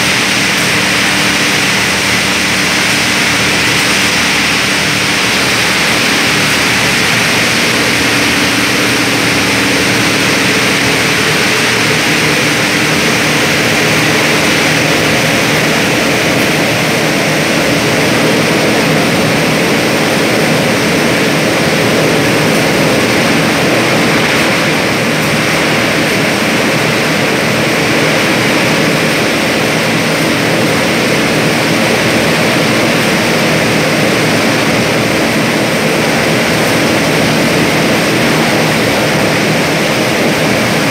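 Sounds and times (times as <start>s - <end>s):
low machine hum: 0.0s - 40.9s
plastic agglomerator machine running: 0.0s - 40.9s.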